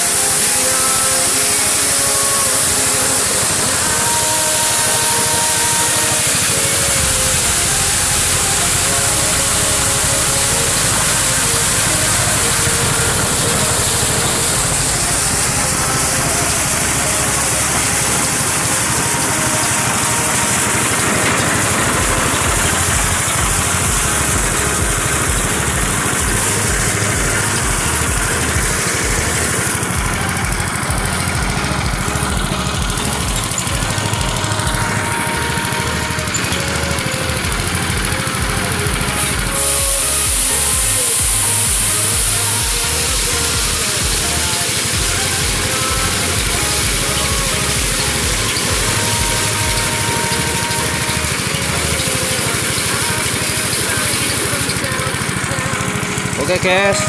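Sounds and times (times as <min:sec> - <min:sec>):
loud high hiss: 0:00.0 - 0:57.0
small petrol engine running: 0:00.0 - 0:57.0.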